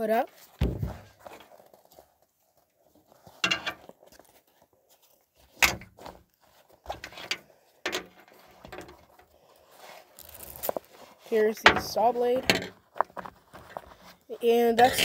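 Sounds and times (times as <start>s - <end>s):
tool pouch rustling: 0.3s - 11.4s, 12.6s - 14.4s.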